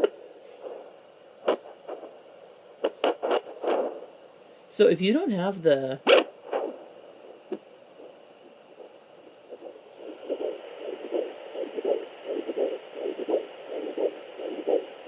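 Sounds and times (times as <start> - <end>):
rhythmic pulse beat: 0.0 - 2.2, 2.8 - 4.1, 6.1 - 15.0
static hiss: 0.0 - 15.0.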